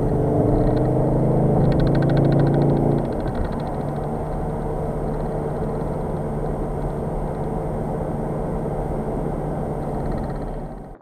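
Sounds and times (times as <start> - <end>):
diesel engine drone: 0.0 - 11.0
tyre and road noise: 0.0 - 11.0.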